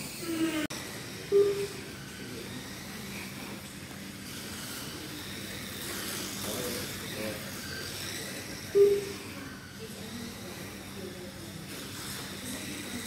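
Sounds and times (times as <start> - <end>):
small electric motor whirring: 0.0 - 13.0.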